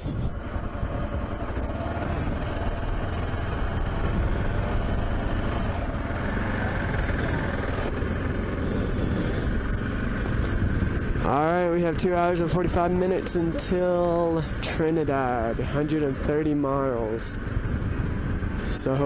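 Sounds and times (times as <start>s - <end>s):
wind noise: 0.0s - 13.6s, 14.5s - 19.0s
motorcycle engine running: 0.0s - 19.0s.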